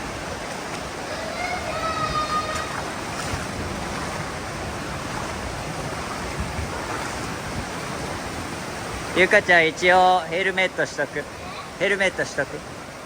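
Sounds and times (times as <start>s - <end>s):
stream pouring over rocks: 0.0s - 13.0s.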